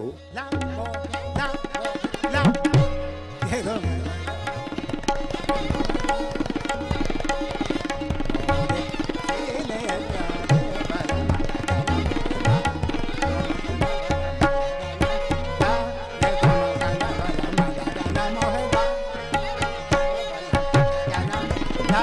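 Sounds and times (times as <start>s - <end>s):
tabla playing: 0.0s - 22.0s.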